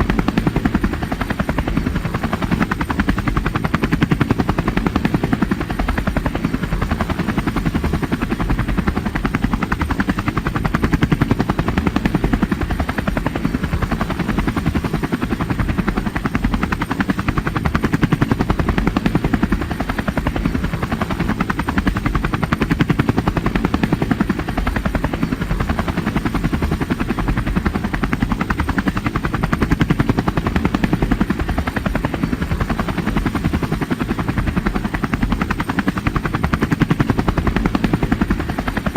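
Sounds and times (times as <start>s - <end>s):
helicopter rotor chopping: 0.0s - 38.9s.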